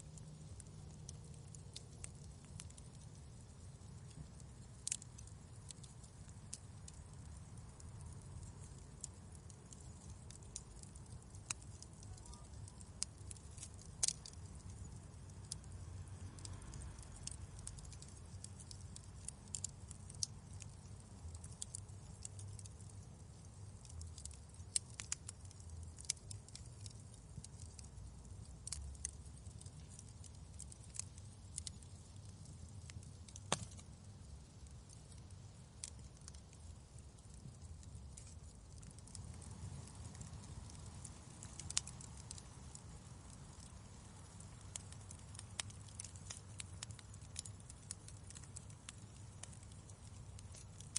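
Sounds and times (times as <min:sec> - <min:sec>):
low steady rumble: 0:00.0 - 0:50.9
wood fire crackling: 0:00.0 - 0:50.9.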